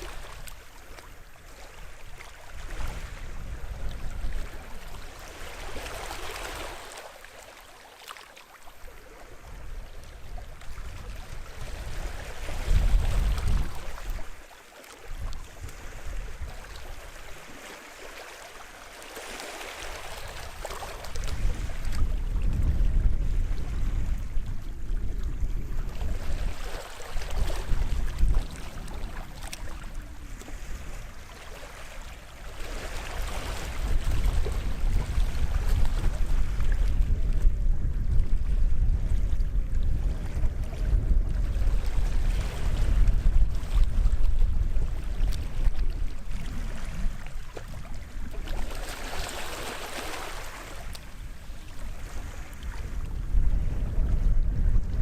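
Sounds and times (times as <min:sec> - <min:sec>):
wind buffeting microphone: 0:00.0 - 0:06.6, 0:09.0 - 0:14.4, 0:15.1 - 0:17.6, 0:19.8 - 0:55.0
small waves washing onto shore: 0:00.0 - 0:55.0.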